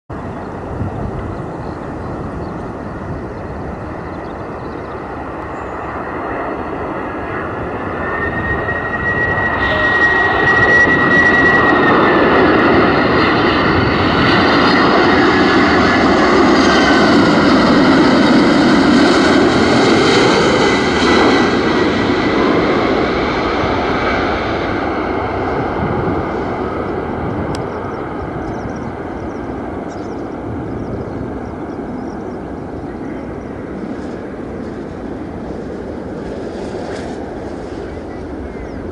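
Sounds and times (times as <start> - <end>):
high jet engine whine: 0.1 - 38.9
jet airliner passing overhead: 0.1 - 38.9.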